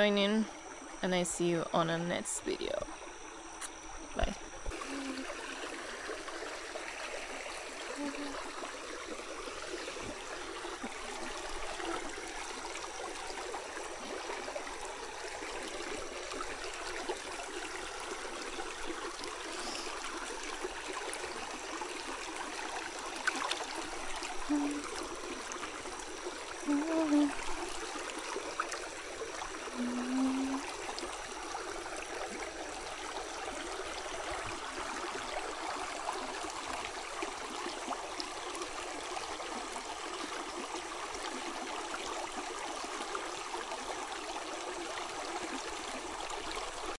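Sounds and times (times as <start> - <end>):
stream flowing over rocks: 4.7 - 47.0.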